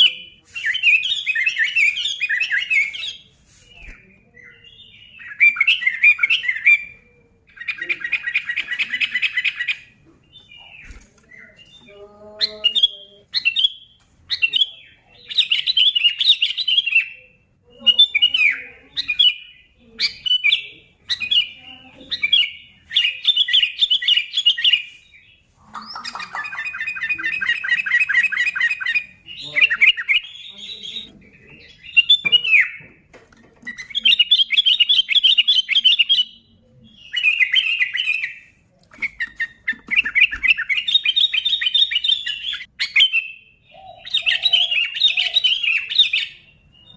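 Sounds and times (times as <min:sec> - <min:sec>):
bird singing chattering phrases: 0:00.0 - 0:46.9.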